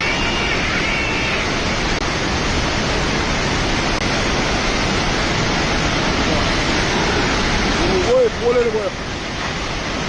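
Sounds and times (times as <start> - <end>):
floodwater roaring: 0.0 - 10.0.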